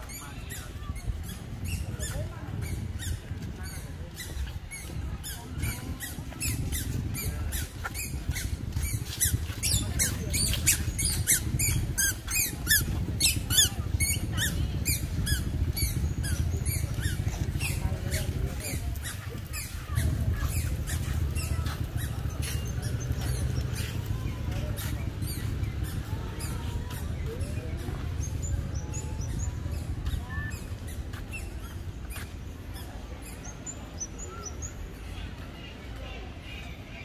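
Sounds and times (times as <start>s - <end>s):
songbirds chirping: 0.0s - 37.0s
steady low rumble: 0.6s - 32.5s.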